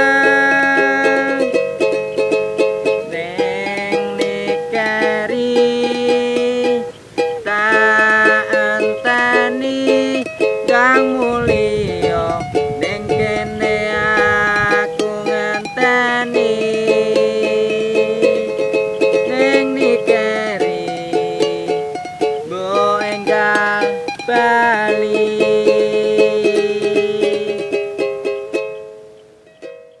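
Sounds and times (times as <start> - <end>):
small plucked string instrument strumming: 0.0 - 30.0.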